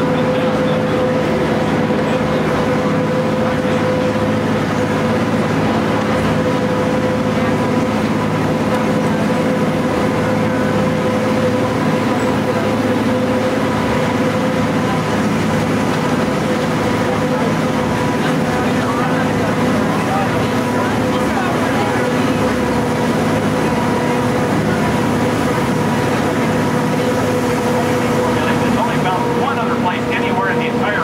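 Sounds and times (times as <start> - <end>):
railcar engine rumble: 0.0 - 31.0
steady mechanical whine: 0.0 - 31.0.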